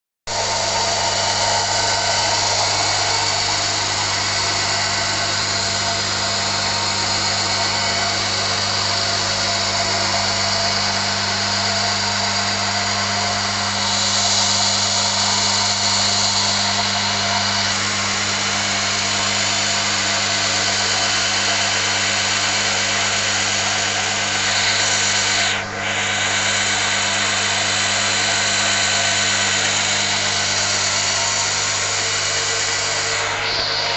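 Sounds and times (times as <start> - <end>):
milking machine pump humming: 0.3 - 33.9.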